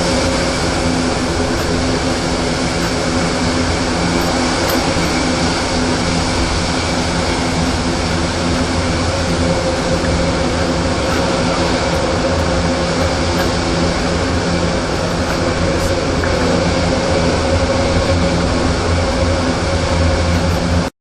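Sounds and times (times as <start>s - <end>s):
mechanical drone of machine: 0.0s - 20.9s.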